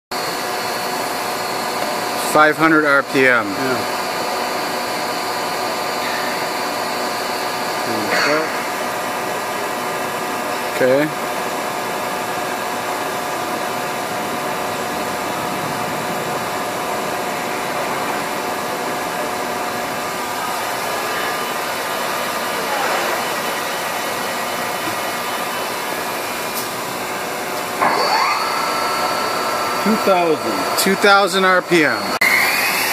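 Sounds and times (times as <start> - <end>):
machining center whirring: 0.1 - 32.9.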